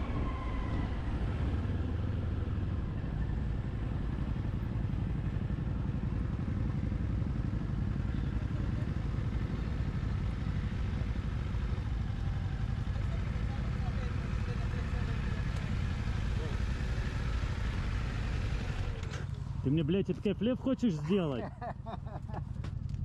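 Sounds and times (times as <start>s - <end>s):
motorcycle engine rumble: 0.0s - 23.0s.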